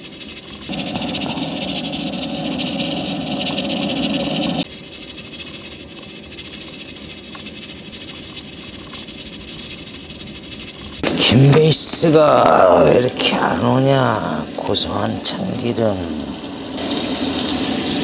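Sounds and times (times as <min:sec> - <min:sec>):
rice cooker steam hissing: 0:00.0 - 0:18.0.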